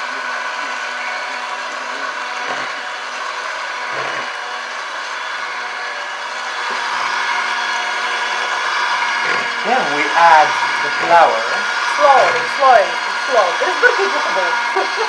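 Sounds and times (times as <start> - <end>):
electric hand mixer whisking: 0.0 - 15.0.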